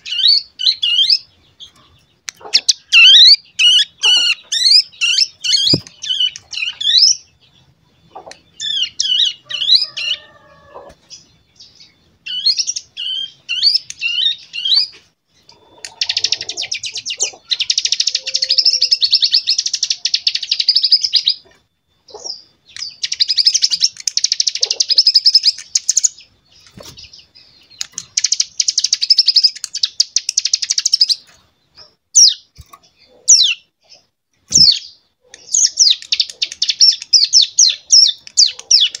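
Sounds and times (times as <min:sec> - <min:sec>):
bird twittering: 0:00.0 - 0:33.7.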